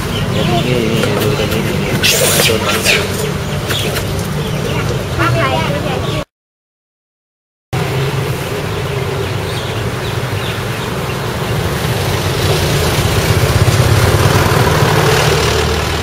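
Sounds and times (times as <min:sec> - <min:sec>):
car and motorbike engines: 0:00.0 - 0:06.3, 0:07.8 - 0:16.0
vehicles passing close by: 0:00.0 - 0:06.3, 0:07.8 - 0:16.0.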